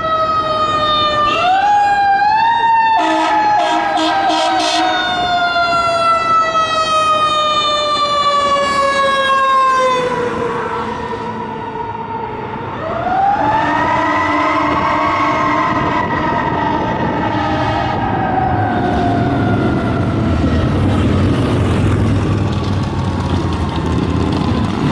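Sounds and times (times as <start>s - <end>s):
fire engine siren winding: 0.0s - 21.0s.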